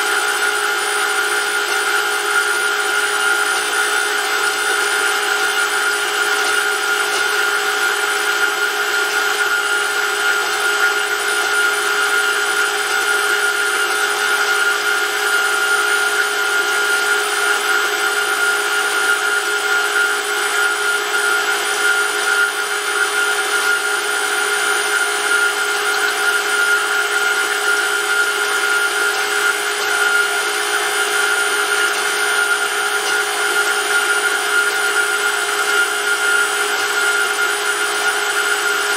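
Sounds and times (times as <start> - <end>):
electric motor whine and hum: 0.0 - 38.9.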